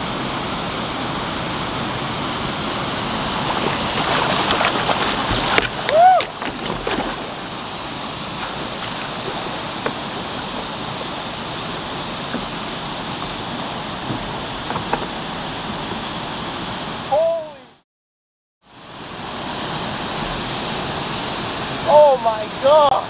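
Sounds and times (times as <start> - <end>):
steady rushing hiss: 0.0 - 17.4, 18.7 - 23.0.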